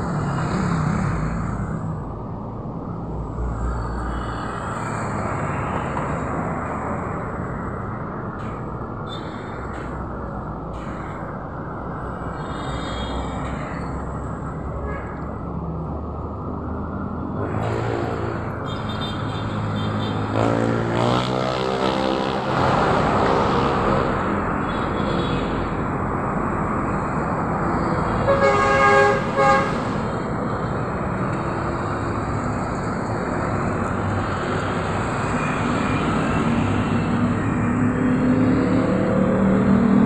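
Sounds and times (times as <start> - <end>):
street traffic: 0.0 - 40.0.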